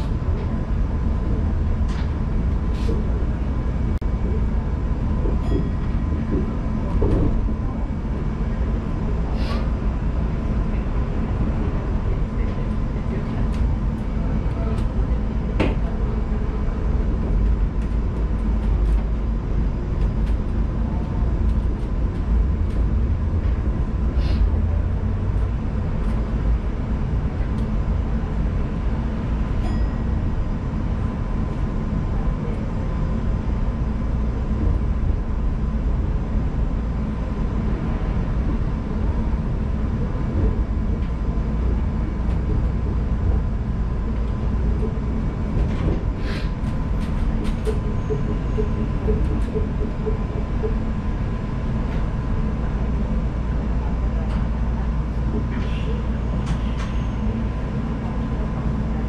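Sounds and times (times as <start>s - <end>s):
monorail car rumbling: 0.0s - 59.0s.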